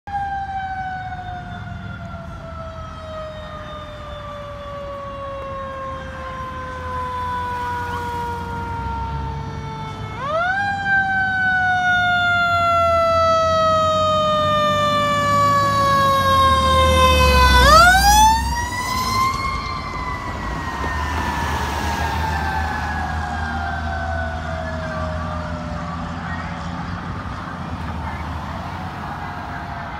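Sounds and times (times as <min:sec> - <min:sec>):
fire engine siren wailing: 0:00.1 - 0:29.9.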